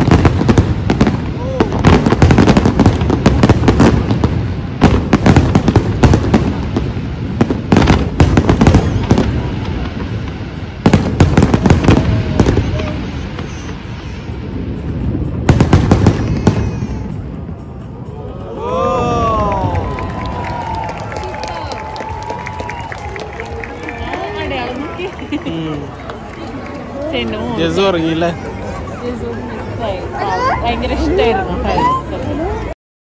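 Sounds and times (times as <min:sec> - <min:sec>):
fireworks crackling and bursting: 0:00.0 - 0:18.1, 0:19.1 - 0:32.7.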